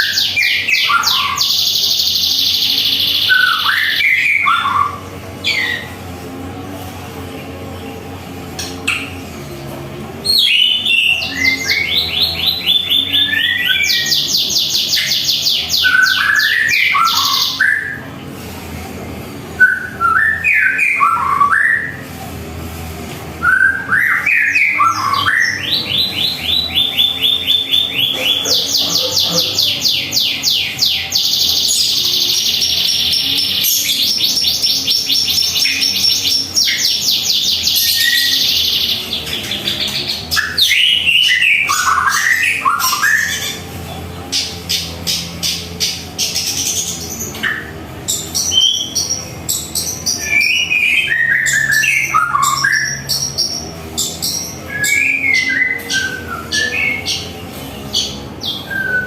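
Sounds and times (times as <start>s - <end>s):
songbird whistling and chattering: 0.0s - 6.0s, 10.2s - 18.1s, 19.6s - 22.0s, 23.4s - 43.7s, 44.3s - 59.0s.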